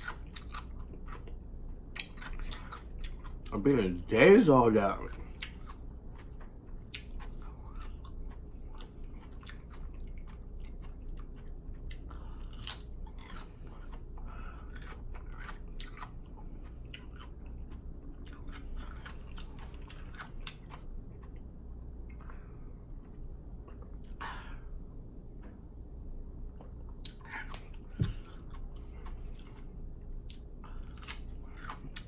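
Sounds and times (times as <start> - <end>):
chewing and biting food: 0.0 - 3.9, 5.0 - 24.3, 26.5 - 32.0.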